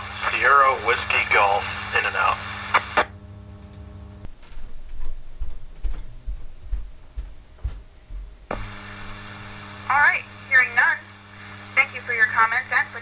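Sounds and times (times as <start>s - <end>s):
radio carrier hum: 0.0s - 13.0s.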